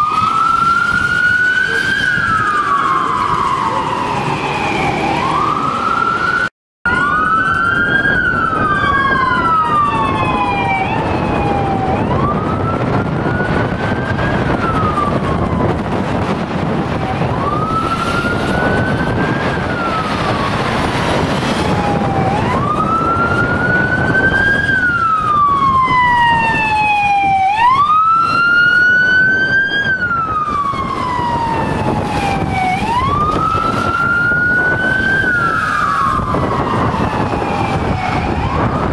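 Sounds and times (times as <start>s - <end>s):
police sirens wailing: 0.0s - 38.9s
traffic noise: 0.0s - 38.9s.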